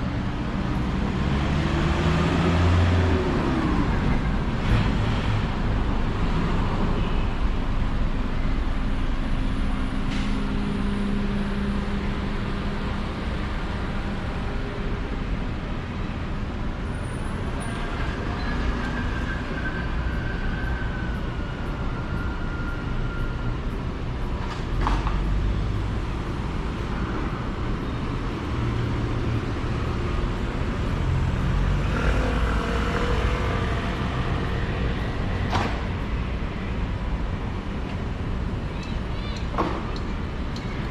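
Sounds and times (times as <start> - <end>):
cars and buses passing: 0.0 - 40.9.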